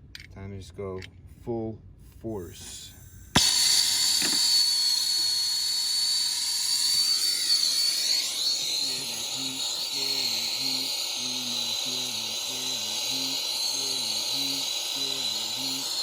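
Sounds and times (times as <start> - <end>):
torch flame hissing: 2.6 - 16.0.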